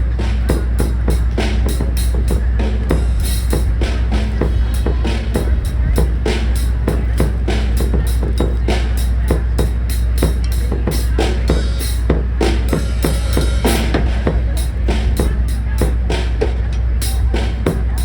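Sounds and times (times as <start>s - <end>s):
drum kit beat: 0.0s - 18.0s
heavy bass: 0.0s - 18.0s.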